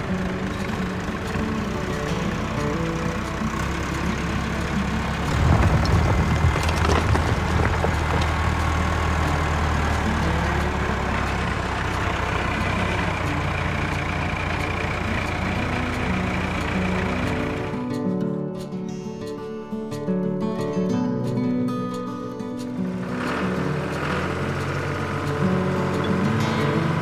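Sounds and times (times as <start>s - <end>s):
tractor engine rumbling: 0.0s - 18.7s, 22.6s - 27.0s.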